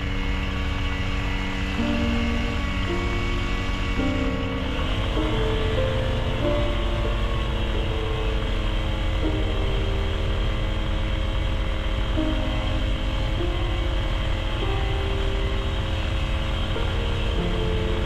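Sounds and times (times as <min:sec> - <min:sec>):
aircraft engine drone: 0:00.0 - 0:18.0.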